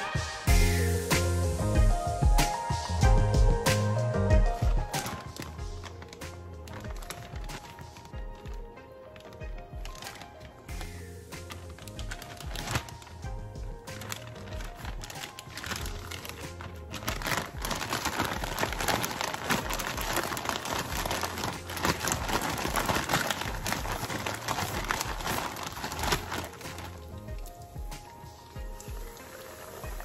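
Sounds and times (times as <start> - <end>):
background music with steady beat: 0.0 - 30.0
plastic bag crinkling: 4.5 - 30.0.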